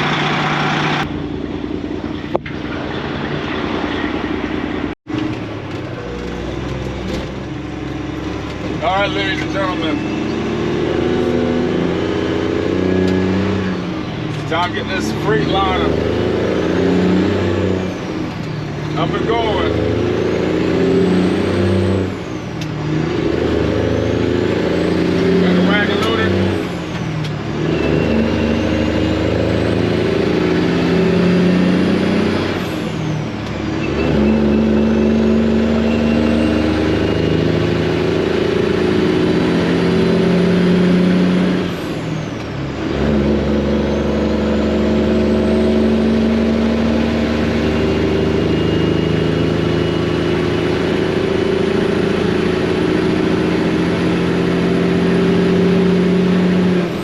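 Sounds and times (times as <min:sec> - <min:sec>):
diesel truck engine accelerating: 0:00.0 - 0:57.0.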